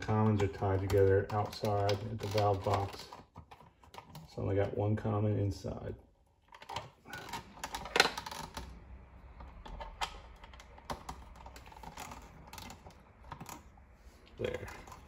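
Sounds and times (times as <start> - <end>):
clicks and rustles of wires: 0.0 - 4.9, 6.3 - 15.0.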